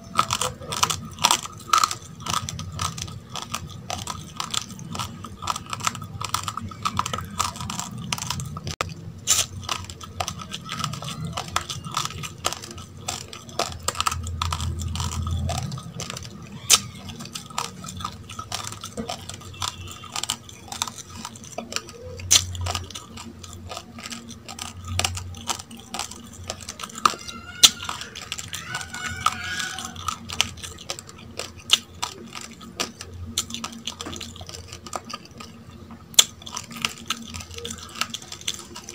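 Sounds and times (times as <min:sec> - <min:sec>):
chewing raw rice crunching: 0:00.0 - 0:38.9.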